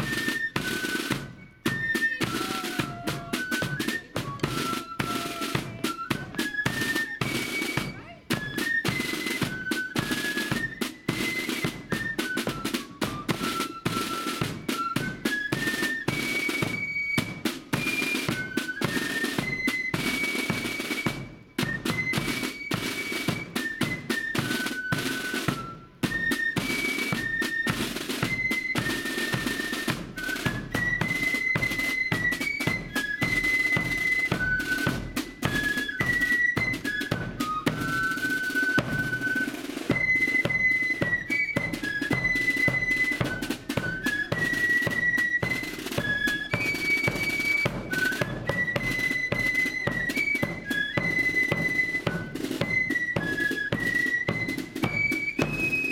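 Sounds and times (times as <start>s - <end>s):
flute melody: 0.0s - 55.9s
snare drum rolls: 0.0s - 55.9s.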